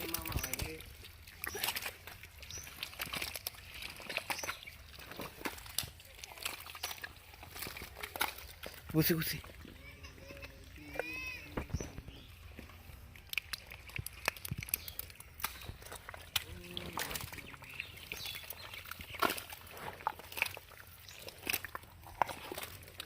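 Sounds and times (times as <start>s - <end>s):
splashing in muddy water: 0.0s - 23.0s.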